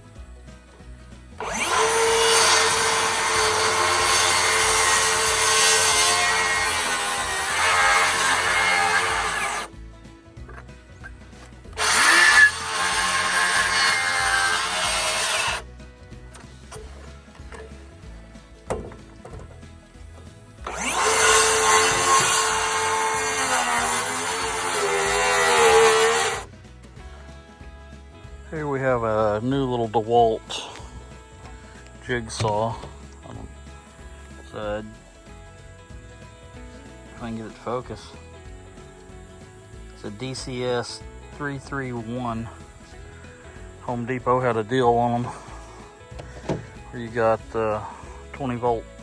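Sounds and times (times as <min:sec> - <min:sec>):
electric saw cutting wood: 0:00.8 - 0:09.8, 0:10.5 - 0:15.7, 0:18.7 - 0:26.5, 0:28.3 - 0:48.9.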